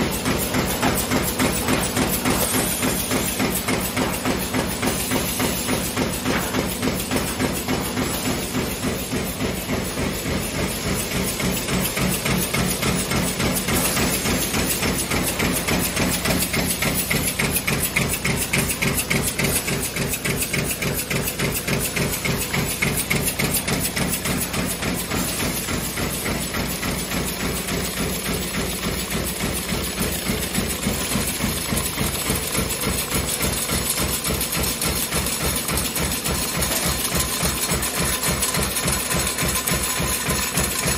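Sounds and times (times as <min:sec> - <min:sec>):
punch press pounding: 0:00.0 - 0:40.9.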